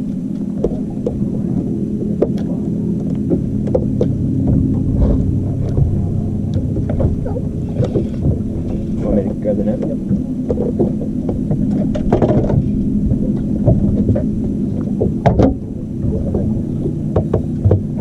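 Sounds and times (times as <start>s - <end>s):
boat motor humming: 0.0s - 18.0s
knocks and clatters on boat: 0.0s - 18.0s.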